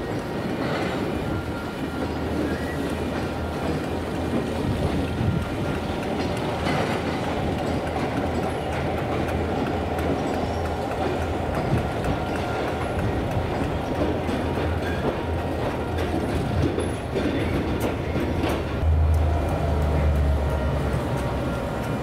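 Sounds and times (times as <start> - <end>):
train wheels rumbling on rail: 0.0 - 22.0
wheels clicking over rail joints: 0.0 - 22.0.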